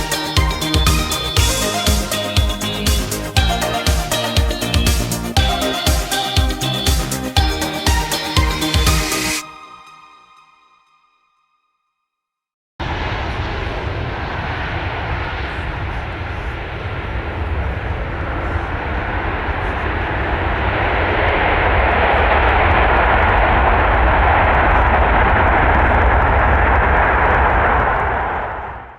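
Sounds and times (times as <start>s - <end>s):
jet engines roaring: 0.0s - 9.4s, 12.8s - 28.9s.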